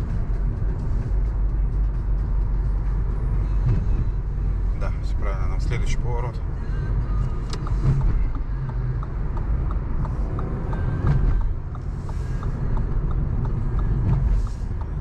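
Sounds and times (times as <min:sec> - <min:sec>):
engine and road rumble: 0:00.0 - 0:15.0
turn signal ticking: 0:01.8 - 0:15.0.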